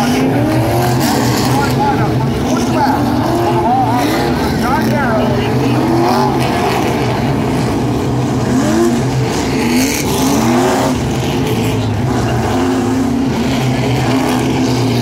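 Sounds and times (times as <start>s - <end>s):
race car engines accelerating: 0.0s - 15.0s.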